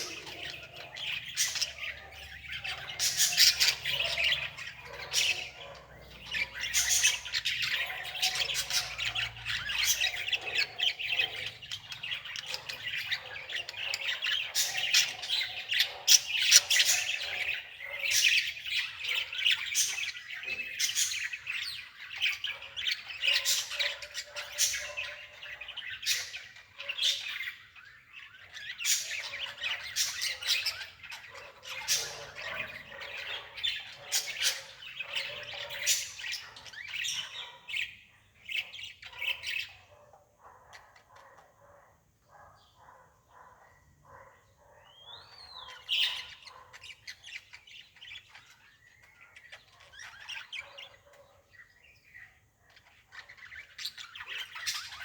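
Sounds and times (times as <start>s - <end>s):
small birds chirping and squawking: 0.0s - 55.0s.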